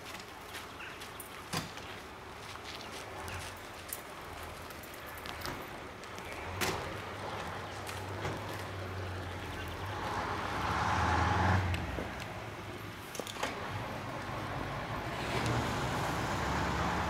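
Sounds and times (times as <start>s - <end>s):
vehicle engine humming: 1.8s - 17.0s.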